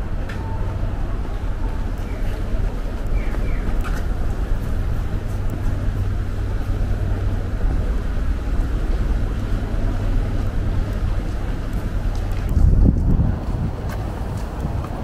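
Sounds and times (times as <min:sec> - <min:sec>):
buses running: 0:00.0 - 0:15.0
road traffic rumble: 0:00.0 - 0:15.0.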